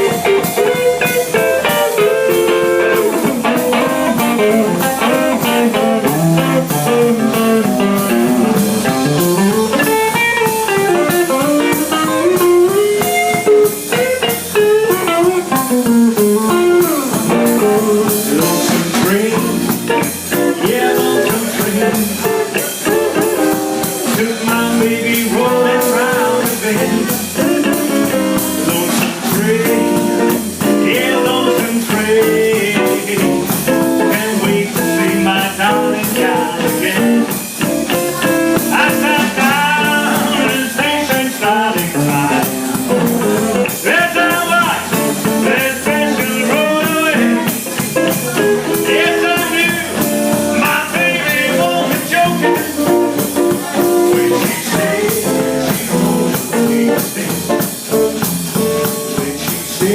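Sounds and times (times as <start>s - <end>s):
live blues rock band playing: 0.0s - 59.9s.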